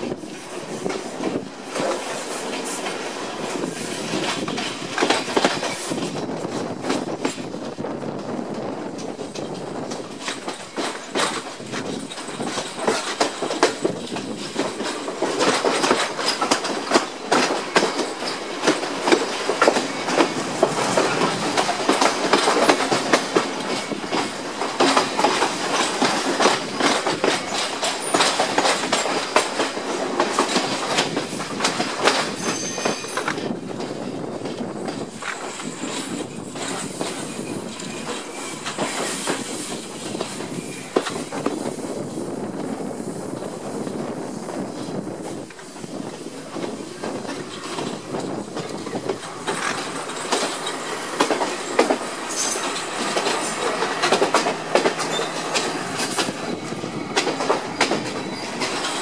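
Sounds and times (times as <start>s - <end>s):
train wheels clattering over rails: 0.0s - 59.0s
train wheel squeal: 9.0s - 59.0s.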